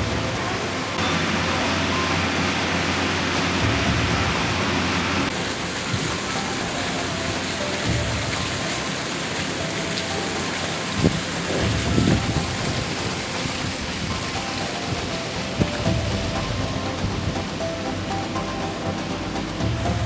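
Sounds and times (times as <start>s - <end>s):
faint background music: 0.0s - 20.0s
stream water rushing: 0.0s - 20.0s.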